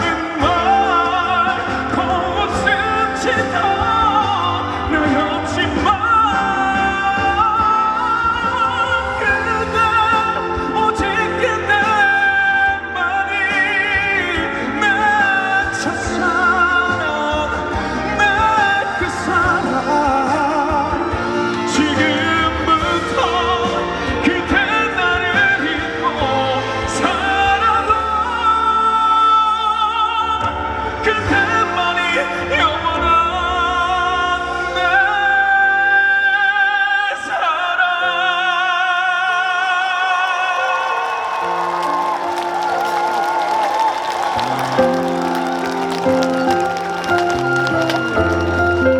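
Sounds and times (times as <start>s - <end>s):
live pop ballad: 0.0s - 39.4s.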